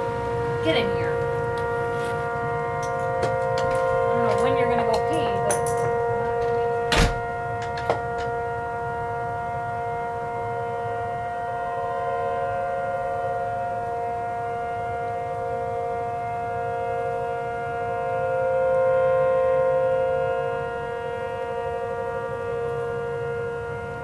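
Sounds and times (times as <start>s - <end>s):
warning siren steady wail: 0.0s - 24.0s.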